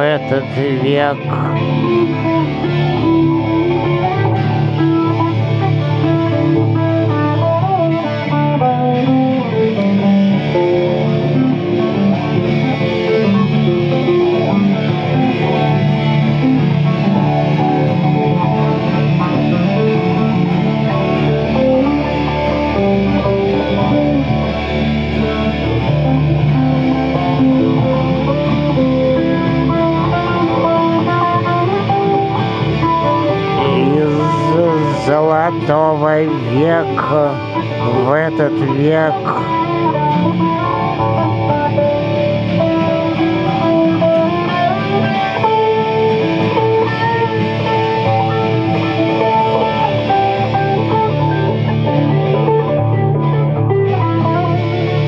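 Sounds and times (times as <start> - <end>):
acoustic guitar playing: 0.0 - 55.0
electric guitar playing: 0.0 - 55.0.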